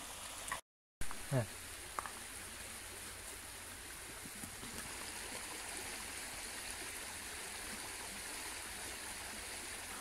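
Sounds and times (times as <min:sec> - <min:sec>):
brook water rushing: 0:00.0 - 0:10.0.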